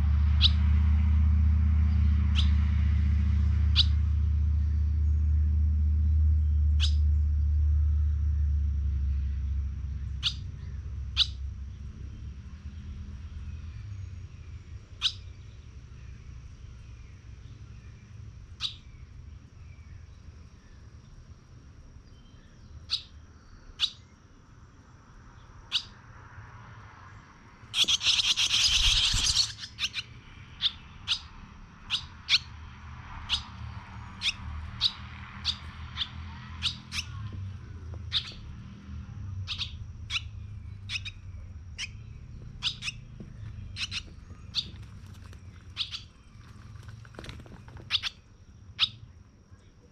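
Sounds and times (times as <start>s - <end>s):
birds chirping: 0.0s - 1.0s, 1.8s - 7.7s, 8.4s - 49.9s.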